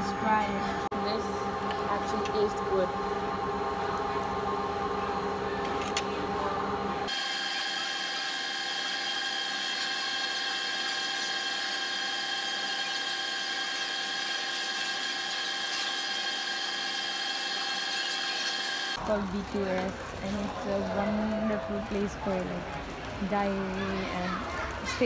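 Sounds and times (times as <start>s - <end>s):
machinery hum and whine: 0.0s - 25.0s.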